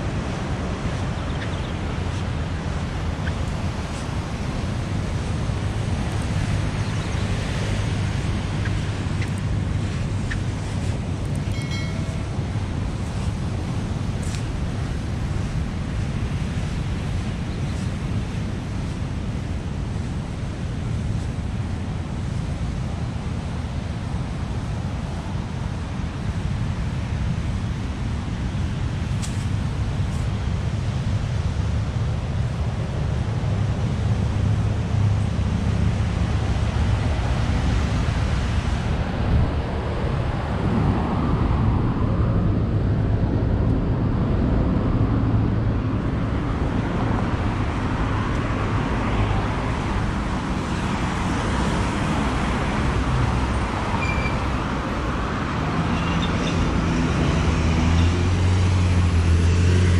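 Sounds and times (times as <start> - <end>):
road traffic passing cars: 0.0 - 59.9
wind rumble on microphone: 0.0 - 59.9.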